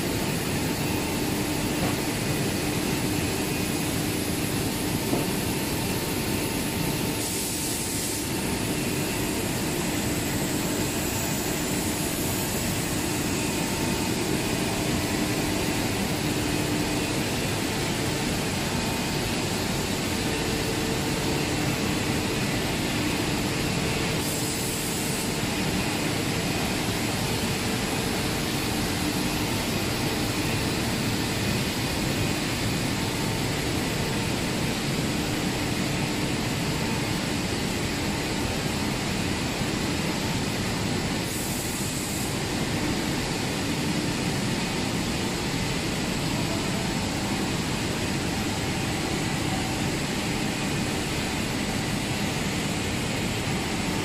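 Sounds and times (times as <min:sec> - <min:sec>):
factory machinery drone: 0:00.0 - 0:54.0
steady hum tones: 0:00.0 - 0:54.0.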